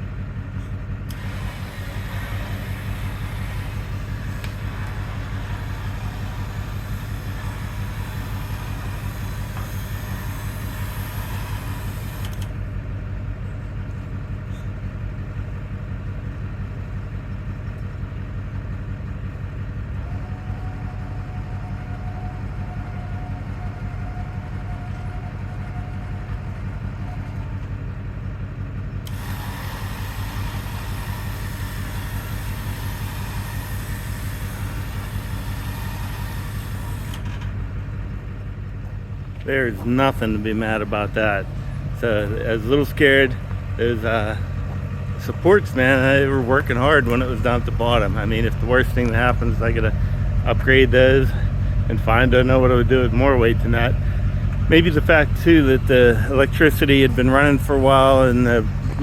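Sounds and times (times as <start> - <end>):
motor drone: 0.0 - 15.1, 17.6 - 59.0.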